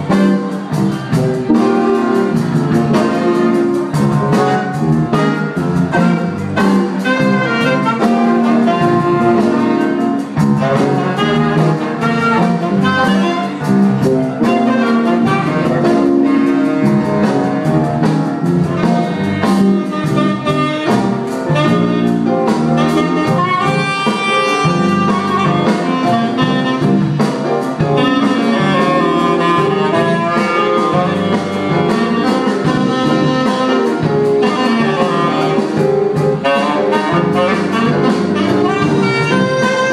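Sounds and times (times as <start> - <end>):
bass: 0.0 - 39.9
drum kit: 0.0 - 39.9
saxophones playing tune: 0.0 - 39.9.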